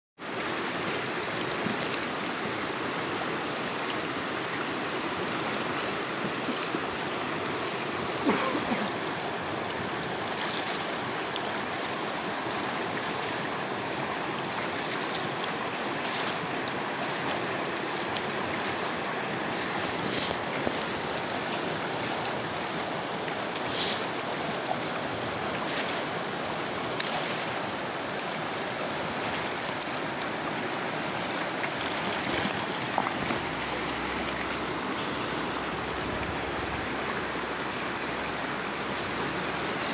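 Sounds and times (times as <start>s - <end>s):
river rushing: 0.2s - 39.9s.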